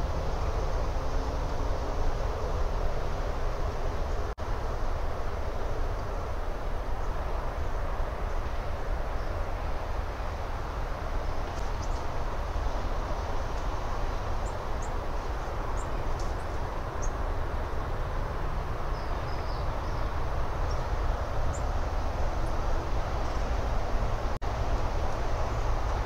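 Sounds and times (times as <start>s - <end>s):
low rumble with hiss: 0.0s - 26.0s.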